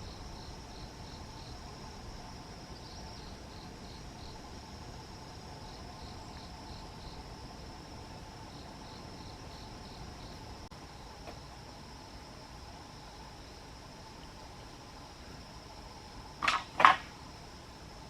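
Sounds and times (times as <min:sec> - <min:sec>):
crickets chirping: 0:00.0 - 0:18.0
high insect trill: 0:00.0 - 0:18.0.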